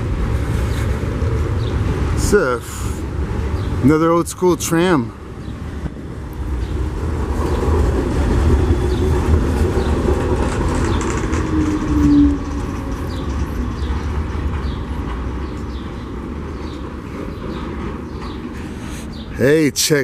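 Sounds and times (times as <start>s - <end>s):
tram whine: 0.0s - 19.8s
tram passing on rails: 0.0s - 20.0s.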